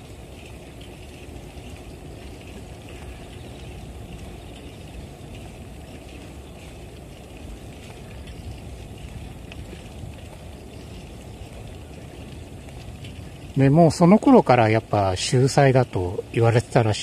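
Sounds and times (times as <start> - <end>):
bicycle road noise: 0.0 - 17.0
wind rush on microphone: 0.0 - 17.0.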